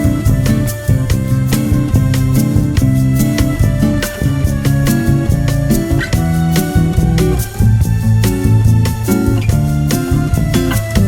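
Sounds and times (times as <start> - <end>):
music with beat guitar and bass: 0.0 - 11.0.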